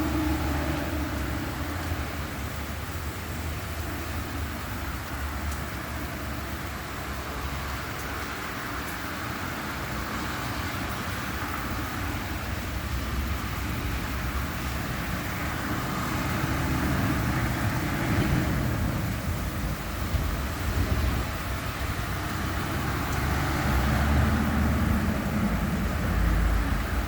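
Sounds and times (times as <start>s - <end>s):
tyres hissing on wet road: 0.0s - 27.0s.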